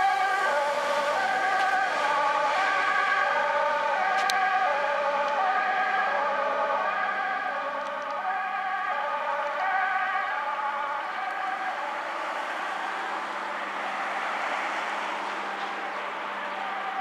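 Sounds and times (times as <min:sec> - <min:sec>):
fire engine two-tone siren: 0:00.0 - 0:17.0.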